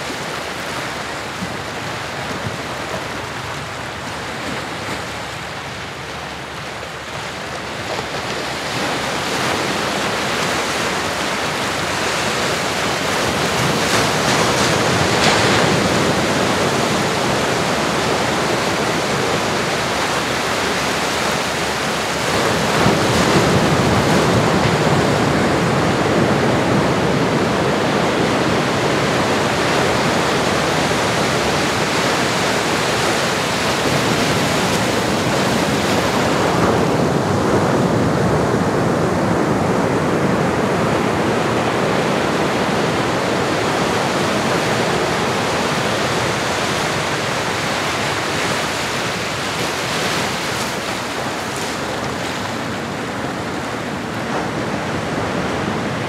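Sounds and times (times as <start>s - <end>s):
ocean waves washing on shore: 0.0s - 56.0s.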